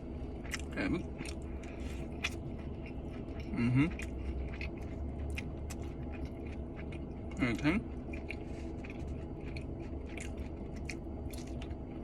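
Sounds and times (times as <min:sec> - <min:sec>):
steady low hum: 0:00.0 - 0:12.0
person chewing with wet clicks: 0:00.3 - 0:12.0.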